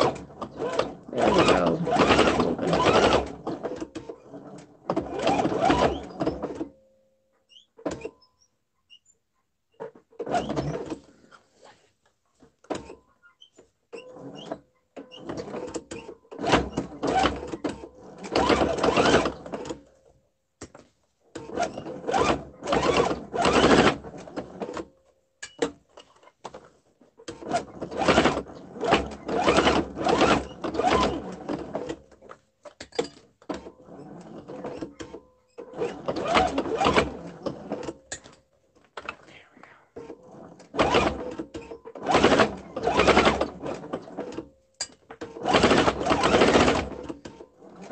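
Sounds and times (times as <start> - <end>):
sewing machine stitching: 0.0 - 6.7, 9.8 - 11.3, 13.9 - 19.9, 21.3 - 38.3, 40.0 - 44.5, 45.1 - 47.9.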